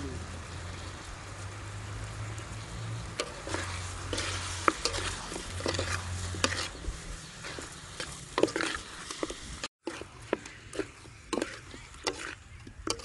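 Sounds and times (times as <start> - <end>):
chicken sizzling in oil: 0.0 - 13.0
spatula scraping a wok: 2.3 - 13.0.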